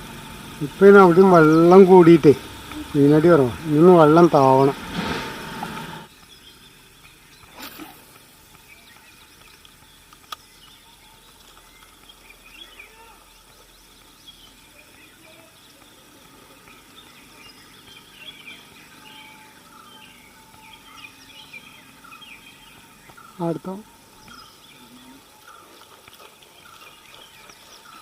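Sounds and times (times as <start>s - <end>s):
birds chirping: 0.0s - 28.0s
soft outdoor hiss: 0.0s - 28.0s.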